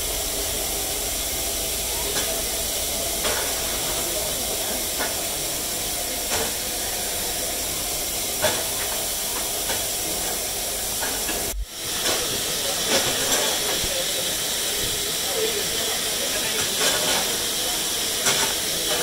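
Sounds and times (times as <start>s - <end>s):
hiss of escaping steam: 0.0s - 19.0s.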